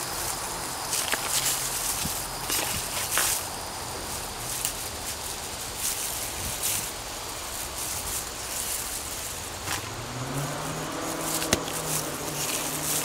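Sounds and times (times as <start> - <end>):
rustling: 0.0 - 13.0
vehicle engine humming: 0.0 - 13.0.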